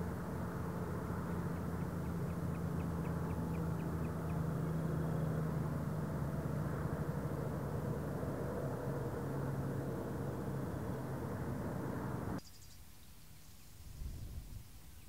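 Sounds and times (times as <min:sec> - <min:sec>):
low engine-like drone: 0:00.0 - 0:12.4.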